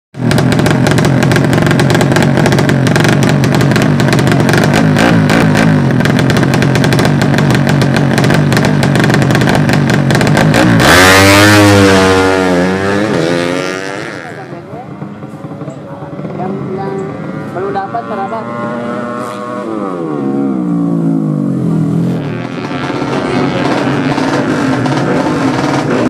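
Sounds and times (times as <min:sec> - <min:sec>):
engine crackle: 0:00.2 - 0:26.0
racing motorcycle engines revving: 0:00.2 - 0:26.0.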